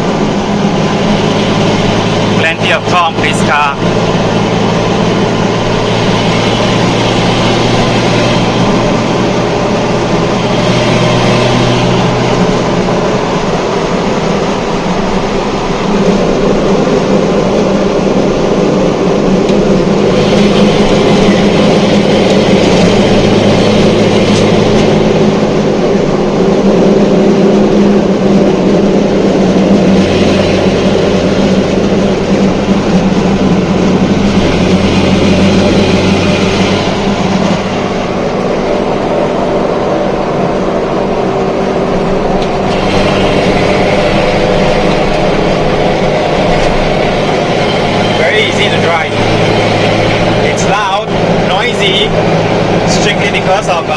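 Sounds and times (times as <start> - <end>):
car engine and exhaust: 0.0 - 53.9
road noise: 0.0 - 53.9.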